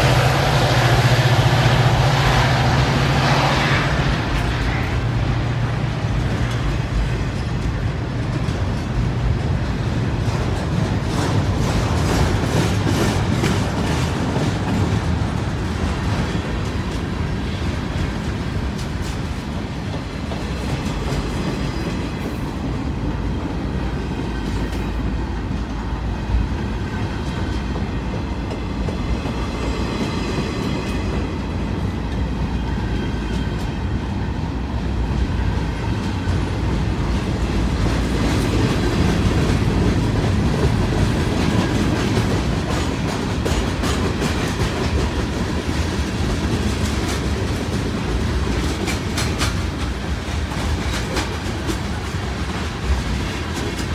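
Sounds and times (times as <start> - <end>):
train wheels clattering on rails: 0.0 - 53.9.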